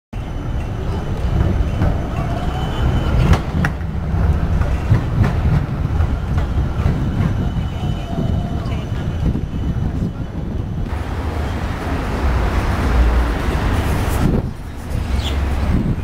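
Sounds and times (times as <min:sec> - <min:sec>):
low city rumble: 0:00.2 - 0:16.0.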